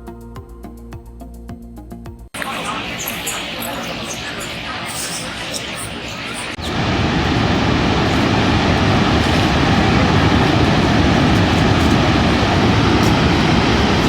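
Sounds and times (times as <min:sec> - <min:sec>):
waterfall roaring: 0:02.4 - 0:14.0.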